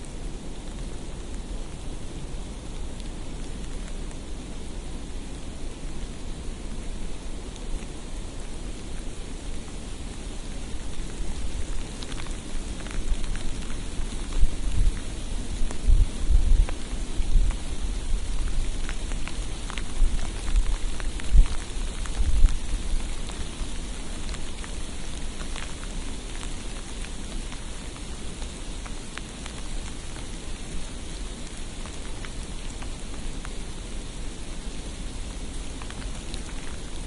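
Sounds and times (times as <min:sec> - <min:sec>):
light ticks of flakes: 0:00.0 - 0:37.0
steady snowfall hiss: 0:00.0 - 0:37.0.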